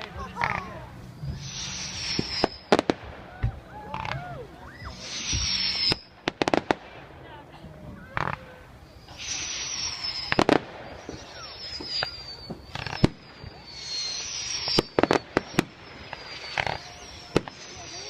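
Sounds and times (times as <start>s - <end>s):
fireworks whistles: 0.0s - 7.2s, 8.0s - 18.0s
fireworks bangs: 0.0s - 18.0s
hissing crackle: 0.0s - 18.0s.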